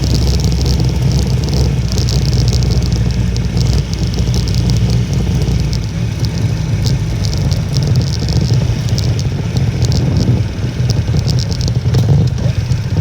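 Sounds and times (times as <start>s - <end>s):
sharp ticks: 0.0s - 13.0s
small motorcycle engine running: 0.0s - 13.0s
wind buffeting microphone: 0.0s - 13.0s.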